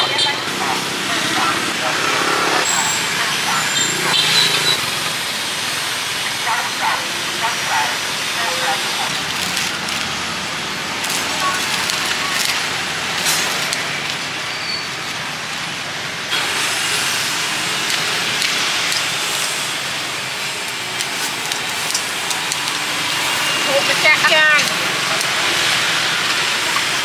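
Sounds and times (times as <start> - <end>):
meat sizzling on a grill: 4.3 - 27.0.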